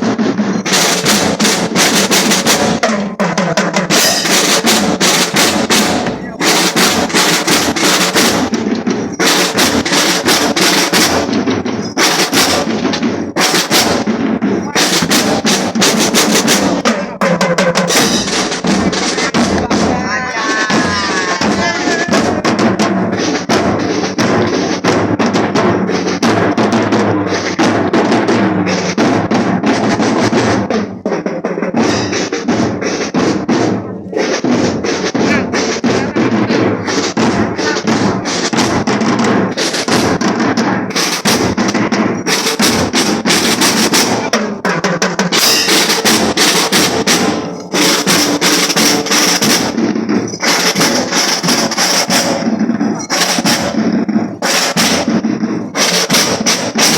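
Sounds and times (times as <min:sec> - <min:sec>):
marching drum band playing: 0:00.0 - 0:56.9.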